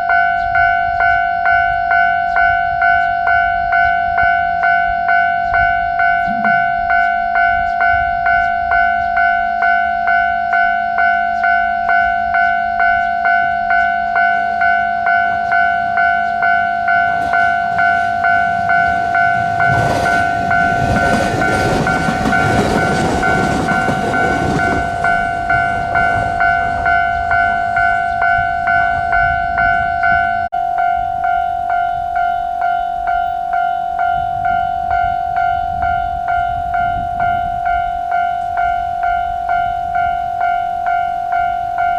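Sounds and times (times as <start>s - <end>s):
level crossing alarm clanging: 0.0s - 41.9s
train passing: 0.0s - 41.9s.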